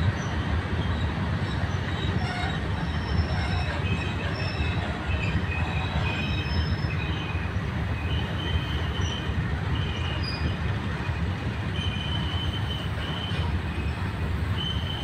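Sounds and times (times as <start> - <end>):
distant train rumble: 0.0 - 15.0
high-pitched wheel squeals: 0.2 - 10.6, 11.7 - 15.0.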